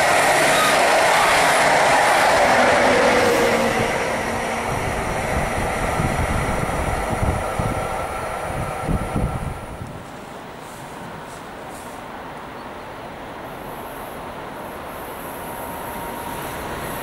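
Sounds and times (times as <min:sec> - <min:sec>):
train wheels on rail: 0:00.0 - 0:17.0.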